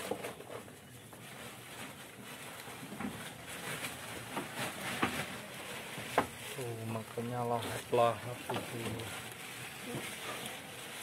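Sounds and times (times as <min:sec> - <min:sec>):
goats chewing: 0:00.0 - 0:11.0
rustling of leafy feed: 0:00.0 - 0:11.0.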